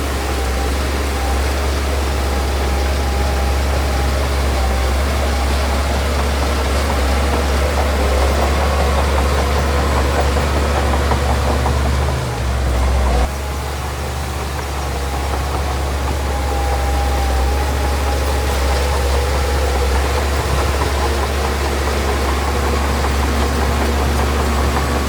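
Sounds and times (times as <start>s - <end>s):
diesel machinery rumbling: 0.0s - 25.0s.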